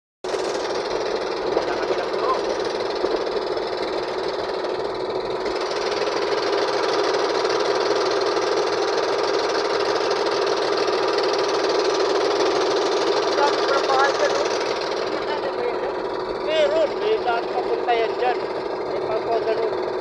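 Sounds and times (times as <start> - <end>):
boat engine knocking drone: 0.2 - 20.0.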